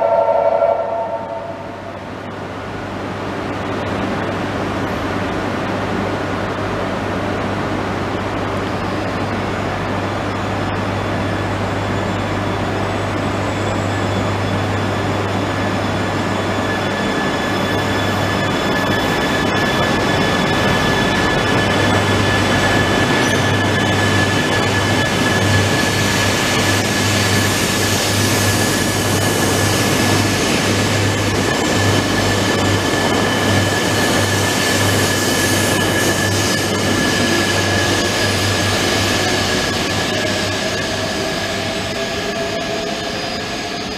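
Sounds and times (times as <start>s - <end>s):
high-pitched train whine: 0.0s - 43.9s
train low hum: 0.0s - 43.9s.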